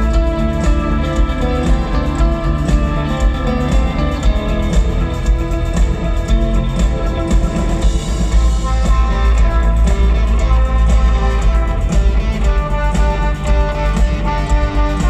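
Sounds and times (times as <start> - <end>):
drums: 0.0 - 15.0
electric guitar: 0.0 - 15.0
heavy bass: 0.0 - 15.0
rock band with orchestra: 0.0 - 15.0.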